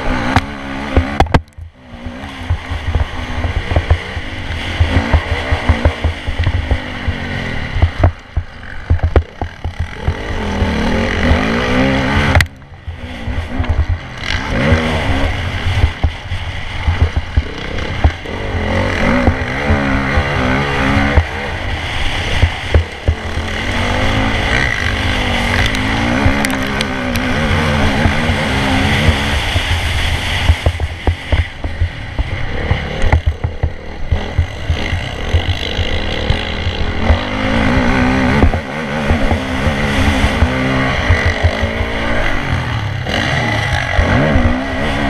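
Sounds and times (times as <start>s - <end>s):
motocross bike engine revving: 0.0s - 45.0s.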